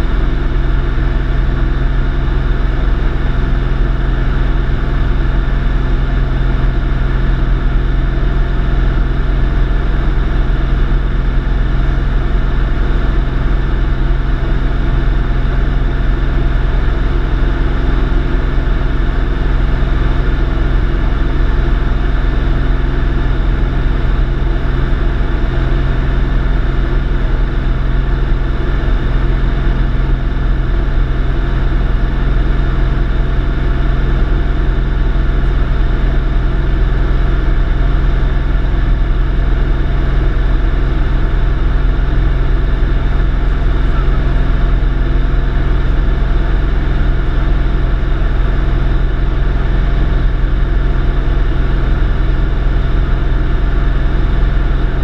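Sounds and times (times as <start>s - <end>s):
light airplane engine drone: 0.0s - 55.0s.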